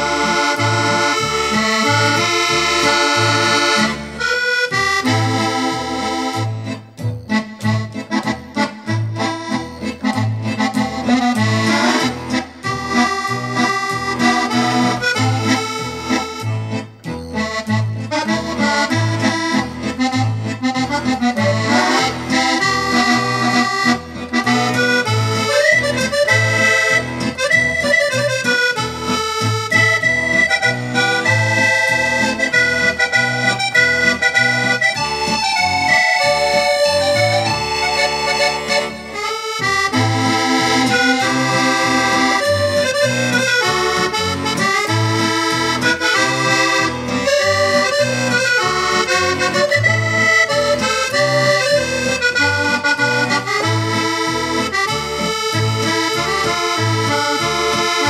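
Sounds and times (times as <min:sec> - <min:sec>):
accordion melody: 0:00.0 - 0:58.0
bass and chord accompaniment: 0:00.0 - 0:58.0.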